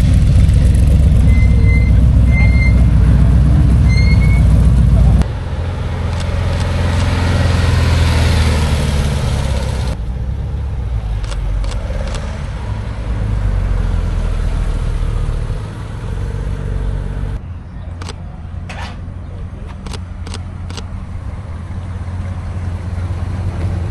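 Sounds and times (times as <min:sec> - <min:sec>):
cars driving past: 0:00.0 - 0:23.9.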